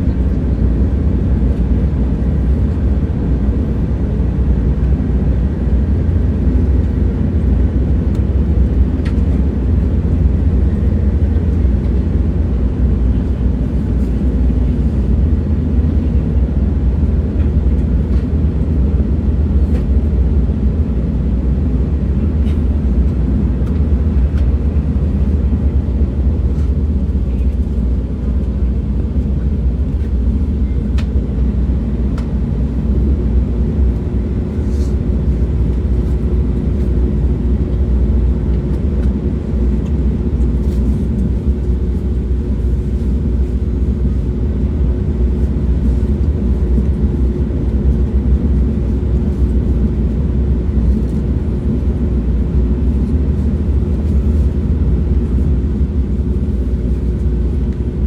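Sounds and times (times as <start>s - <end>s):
moving train rumble: 0.0s - 58.0s.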